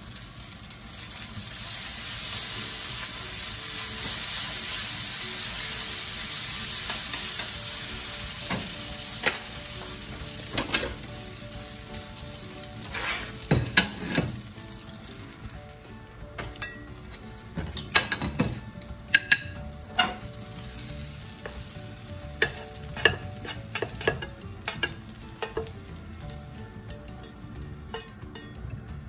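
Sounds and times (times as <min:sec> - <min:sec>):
food sizzling in frying pan: 0:00.0 - 0:28.7.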